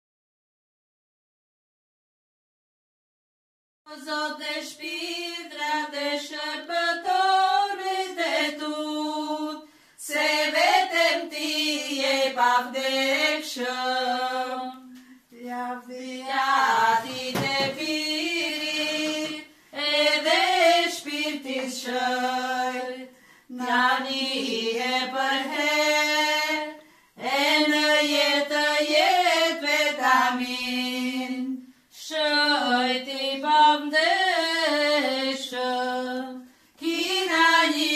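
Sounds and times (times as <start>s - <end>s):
women singing unaccompanied: 3.9s - 37.9s.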